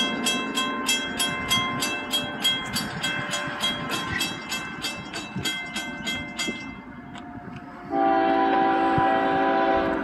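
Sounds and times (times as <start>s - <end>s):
railroad crossing bell ringing: 0.0s - 8.7s.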